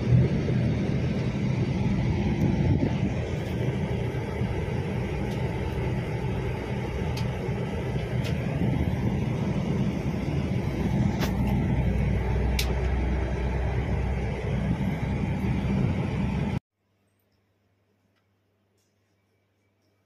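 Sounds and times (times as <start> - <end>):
coach engine and road rumble: 0.0 - 16.6.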